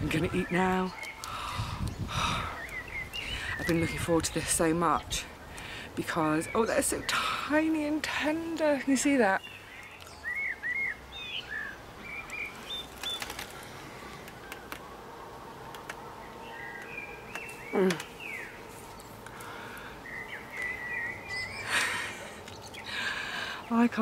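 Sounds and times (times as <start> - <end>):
small birds chirping: 0.0 - 15.0, 15.6 - 24.0
faint outdoor background: 0.0 - 24.0.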